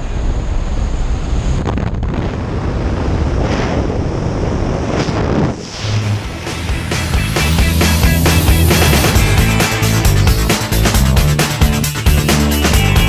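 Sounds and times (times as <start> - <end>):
rushing airflow roar: 0.0 - 12.4.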